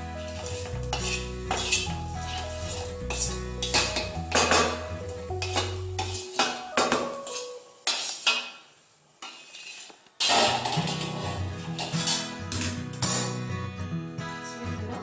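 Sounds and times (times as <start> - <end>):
metal spatula scraping a pan: 0.0 - 13.4.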